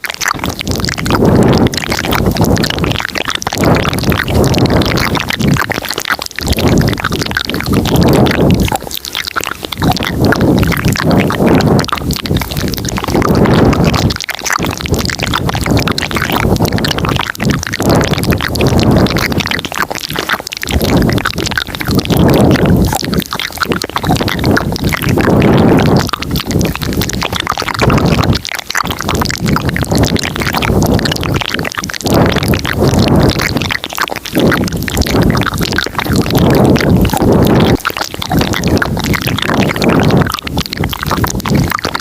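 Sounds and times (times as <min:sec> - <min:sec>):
mouth clicks and smacks: 0:00.0 - 0:42.0.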